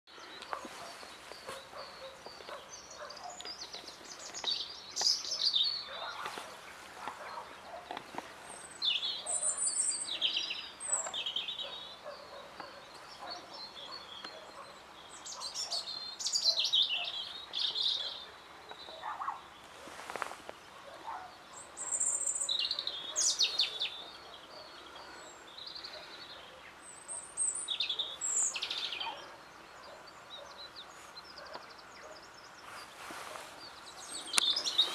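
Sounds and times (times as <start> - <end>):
robin singing: 0.1 - 34.9.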